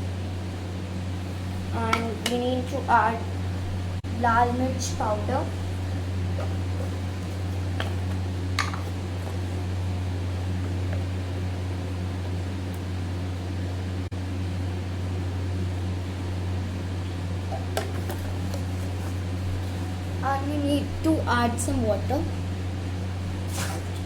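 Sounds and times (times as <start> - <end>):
low fan-like hum: 0.0 - 24.0.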